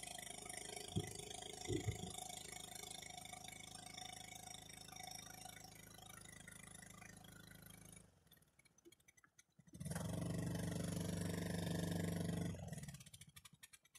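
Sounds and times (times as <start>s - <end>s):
small motor humming: 0.0s - 13.5s.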